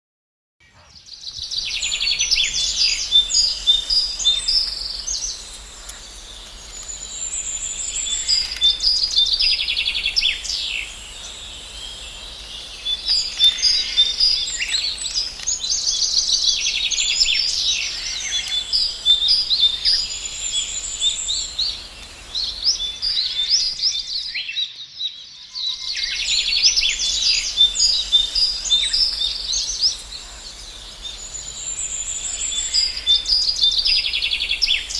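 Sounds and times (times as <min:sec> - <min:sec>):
songbirds chirping and singing: 0:00.6 - 0:34.9.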